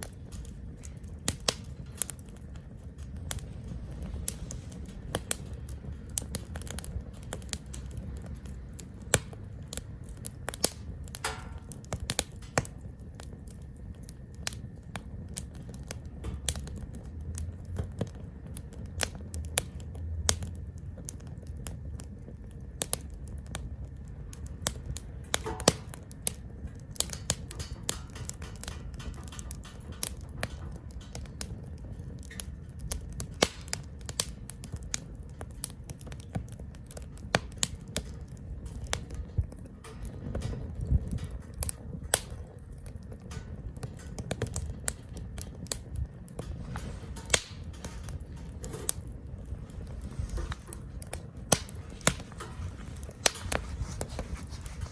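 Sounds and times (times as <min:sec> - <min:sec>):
burning wood crackling: 0:00.0 - 0:54.9
low steady rumble: 0:00.0 - 0:54.9.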